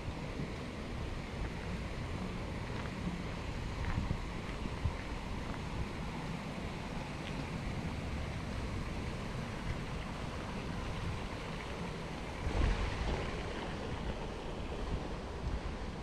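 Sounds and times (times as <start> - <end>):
wind buffeting microphone: 0.0 - 6.3, 7.6 - 16.0.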